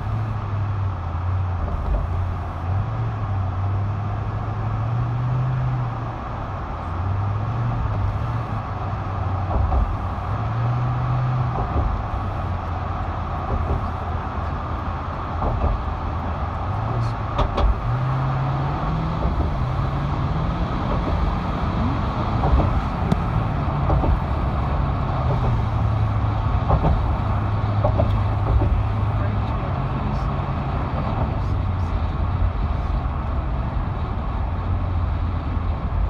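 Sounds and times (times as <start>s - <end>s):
car road noise from inside: 0.0s - 36.0s.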